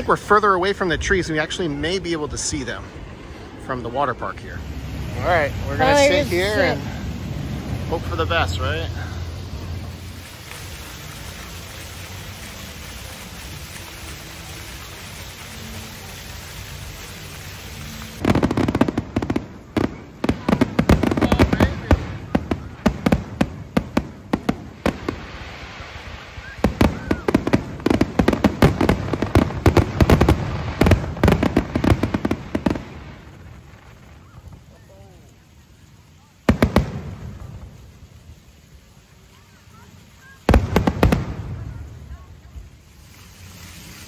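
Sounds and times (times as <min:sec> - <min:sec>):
fireworks bangs and pops: 0:04.7 - 0:35.0, 0:36.4 - 0:38.2, 0:39.7 - 0:44.0.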